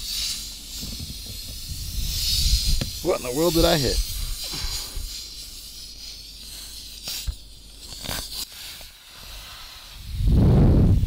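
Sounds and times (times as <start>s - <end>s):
air hissing from tire: 0.0s - 11.0s.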